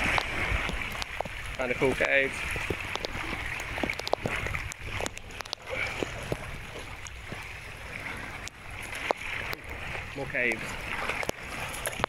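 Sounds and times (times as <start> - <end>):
water sloshing and lapping: 0.0 - 12.0.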